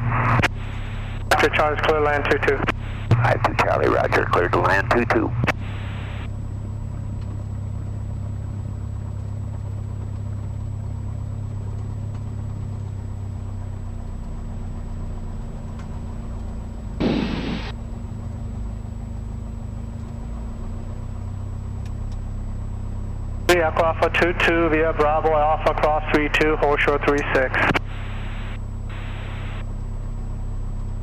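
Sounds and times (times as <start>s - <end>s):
small plane engine running: 0.0s - 31.0s.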